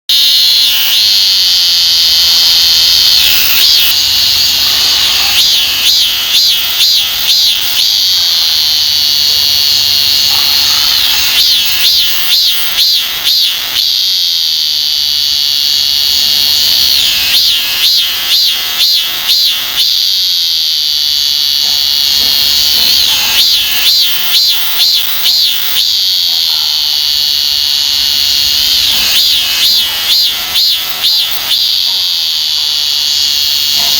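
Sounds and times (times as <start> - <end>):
cicada buzzing and pulsing: 0.1 - 33.9.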